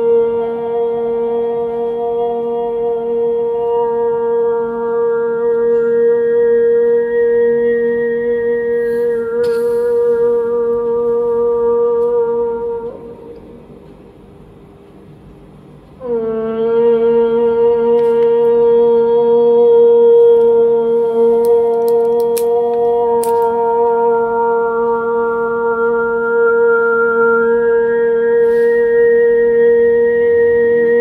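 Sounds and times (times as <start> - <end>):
chanted vocal drone: 0.0 - 14.6, 15.2 - 31.0.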